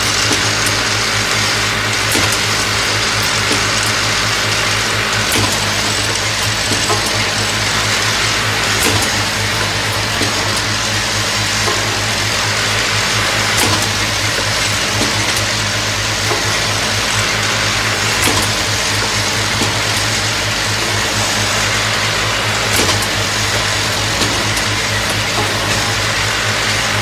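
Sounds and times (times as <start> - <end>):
machine hum: 0.0 - 27.0.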